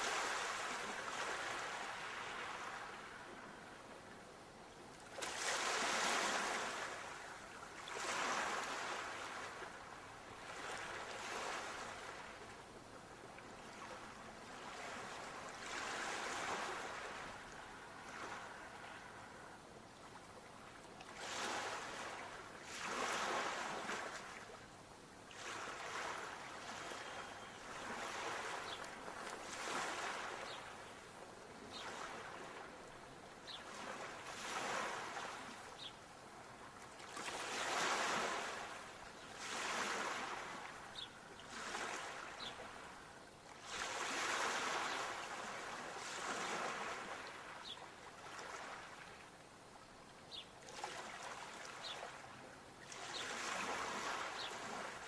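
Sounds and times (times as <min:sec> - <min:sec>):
sea waves breaking on shore: 0:00.0 - 0:04.2, 0:04.9 - 0:49.5, 0:50.3 - 0:55.0.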